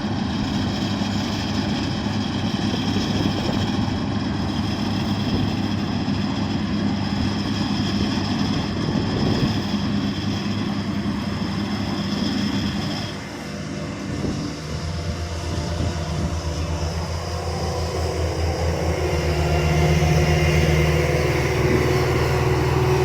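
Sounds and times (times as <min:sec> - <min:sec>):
construction machine engine running: 0:00.0 - 0:23.0
steady high whine: 0:00.0 - 0:23.0.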